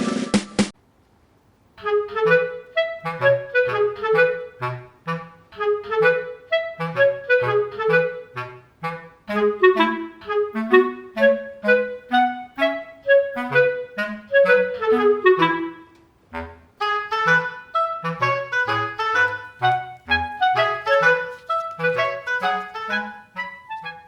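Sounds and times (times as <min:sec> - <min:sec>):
light instrumental music: 0:01.8 - 0:24.0.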